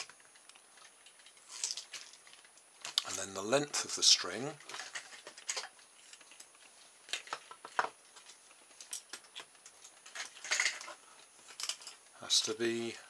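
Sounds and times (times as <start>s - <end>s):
hands handling small toy: 0.0s - 3.3s, 4.4s - 12.1s.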